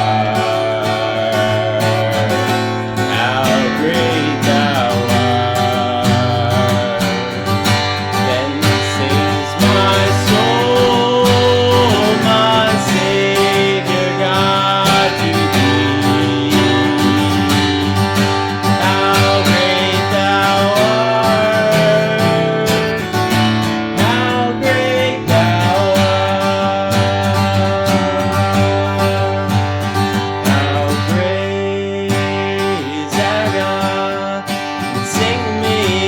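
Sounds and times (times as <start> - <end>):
acoustic guitar music: 0.0 - 36.0.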